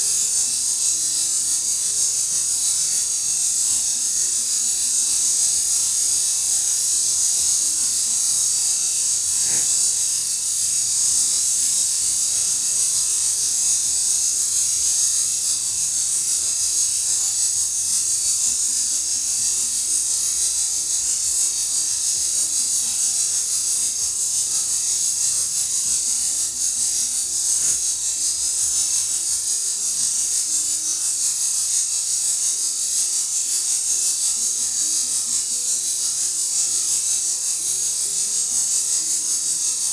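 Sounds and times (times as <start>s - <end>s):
rattlesnake tail rattling: 0.0s - 39.9s.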